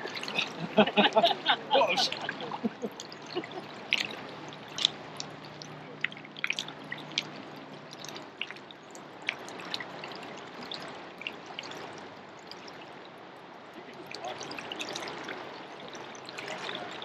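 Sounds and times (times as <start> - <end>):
river water flowing: 0.0 - 17.0
small splashes and drips: 0.0 - 17.0.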